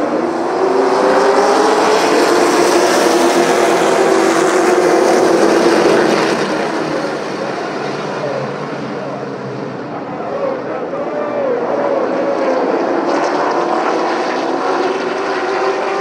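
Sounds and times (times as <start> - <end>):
racing truck engines at full throttle: 0.0 - 16.0.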